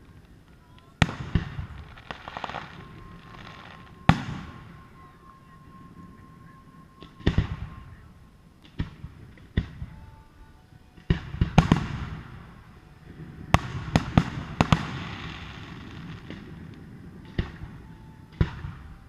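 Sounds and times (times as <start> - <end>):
crackling hiss: 0.0 - 19.0
fireworks bursting with bangs: 0.0 - 19.0.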